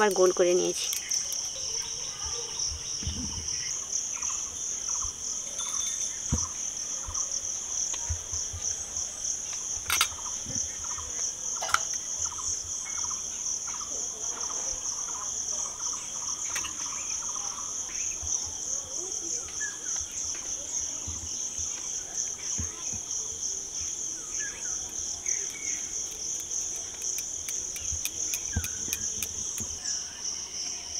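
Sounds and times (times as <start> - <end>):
insects buzzing: 0.0 - 30.9
low insect chirp: 0.0 - 30.9.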